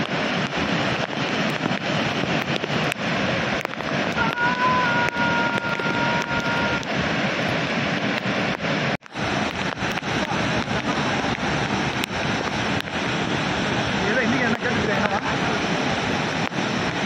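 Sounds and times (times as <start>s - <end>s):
waterfall rushing: 0.0s - 17.0s
wind on microphone: 0.0s - 17.0s.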